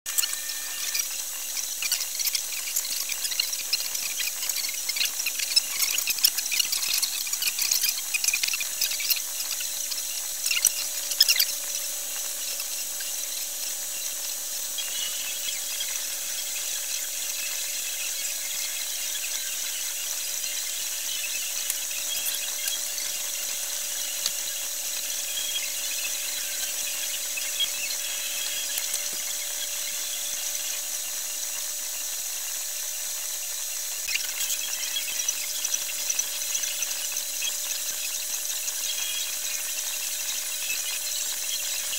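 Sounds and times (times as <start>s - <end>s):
machine hum with high hiss: 0.1s - 41.9s.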